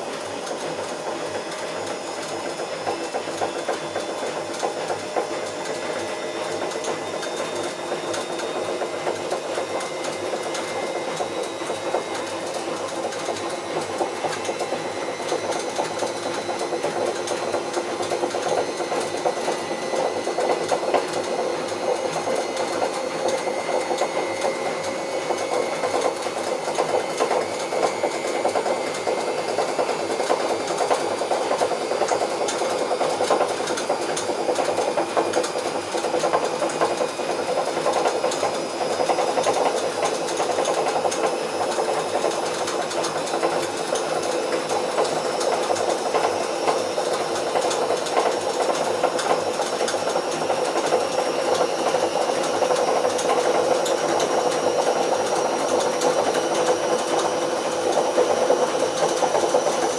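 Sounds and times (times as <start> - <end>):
washing machine drum turning: 0.0 - 59.9.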